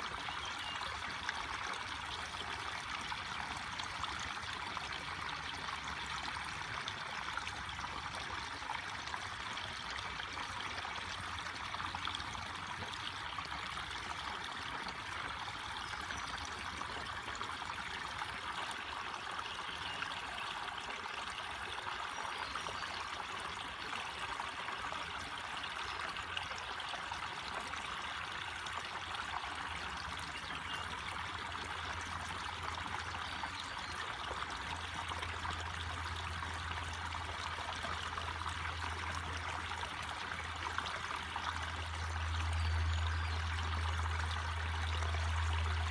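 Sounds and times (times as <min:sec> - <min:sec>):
stream trickling over rocks: 0:00.0 - 0:45.9.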